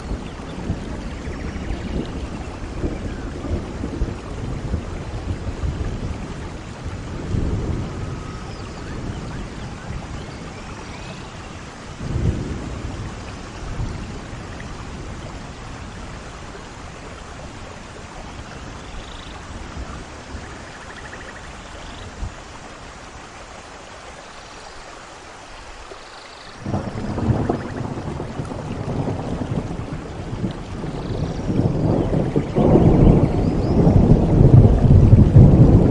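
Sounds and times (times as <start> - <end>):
rolling thunder: 0.0 - 22.4, 26.6 - 35.9
steady rain: 0.0 - 35.9.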